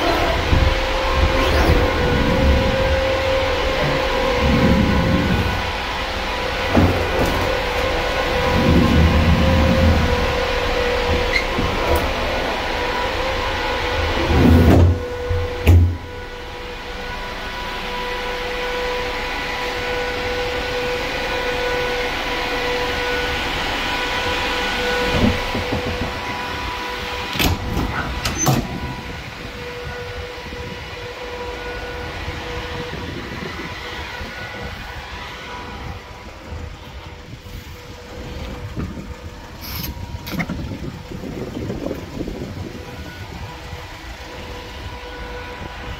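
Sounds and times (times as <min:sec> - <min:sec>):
rumbling clatter: 0:00.0 - 0:18.2, 0:22.6 - 0:30.8, 0:32.3 - 0:45.9
truck engine running: 0:00.0 - 0:45.9.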